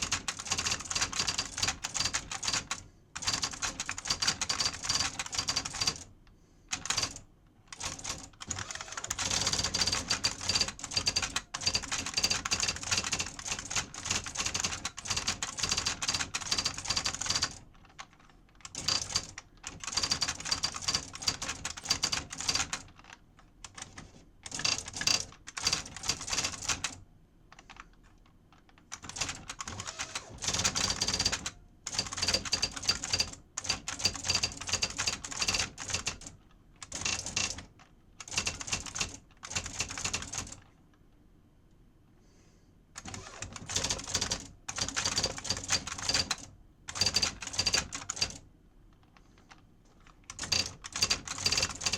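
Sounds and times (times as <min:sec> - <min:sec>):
electronic typewriter typing: 0:00.0 - 0:06.1, 0:06.7 - 0:27.0, 0:28.6 - 0:40.7, 0:43.0 - 0:48.4, 0:49.4 - 0:51.9.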